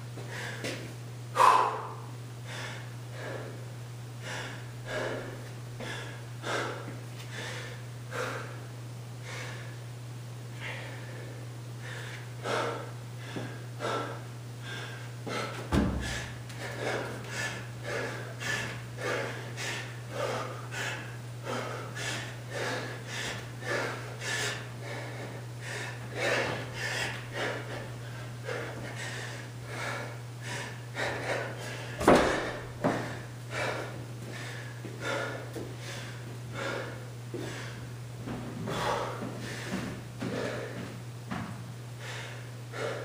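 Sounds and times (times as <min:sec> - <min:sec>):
steady low hum: 0:00.0 - 0:43.0
man breathing hard: 0:00.2 - 0:09.9, 0:10.5 - 0:38.0, 0:38.6 - 0:41.0, 0:41.9 - 0:43.0.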